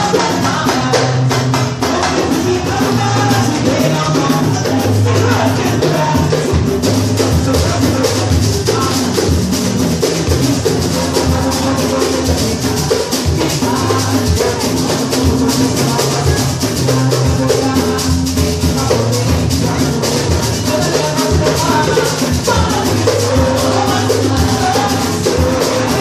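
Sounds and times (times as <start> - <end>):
deep bass drums: 0.0 - 26.0
shaker and drum rhythm: 0.0 - 26.0.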